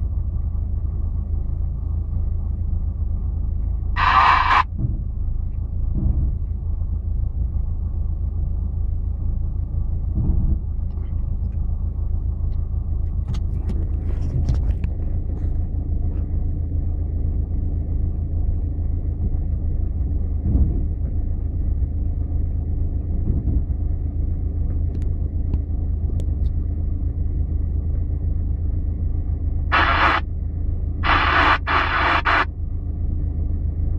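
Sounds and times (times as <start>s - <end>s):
vehicle engine running at low revs: 0.0s - 33.9s.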